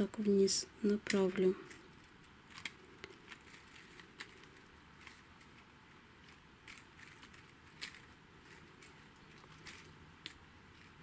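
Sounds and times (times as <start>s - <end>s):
sequin leaves and wire clicking: 0.0s - 11.0s.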